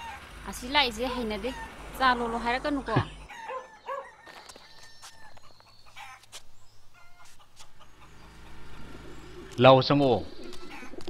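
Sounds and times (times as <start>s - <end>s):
chickens clucking: 1.0s - 11.0s.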